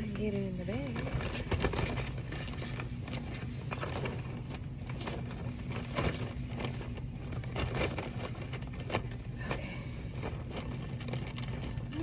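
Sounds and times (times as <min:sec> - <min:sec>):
clicks knocks and rustles of packing: 0:00.0 - 0:12.0
steady low hum: 0:00.0 - 0:12.0.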